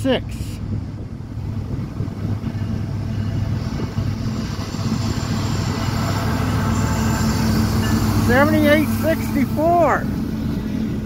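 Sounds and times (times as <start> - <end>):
locomotive engines droning: 0.0 - 11.0
train wheels rumbling on rails: 0.0 - 11.0.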